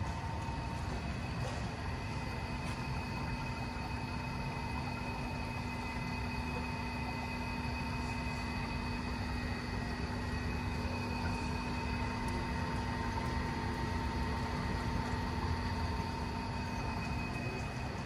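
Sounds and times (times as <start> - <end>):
constant mechanical hum: 0.0 - 18.0
low street rumble: 0.0 - 18.0.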